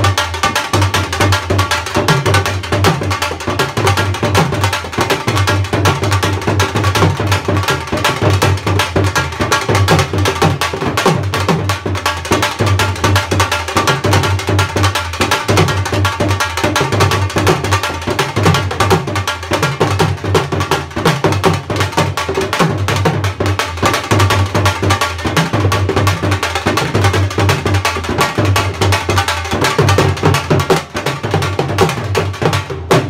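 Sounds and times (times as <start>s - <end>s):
barrel drum played with sticks: 0.0s - 33.0s.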